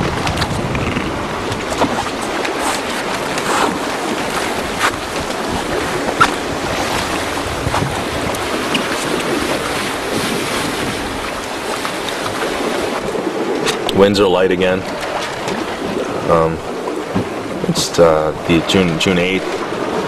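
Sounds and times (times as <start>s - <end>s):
water rushing past boat hulls: 0.0s - 20.0s
wind buffeting microphone: 0.0s - 20.0s.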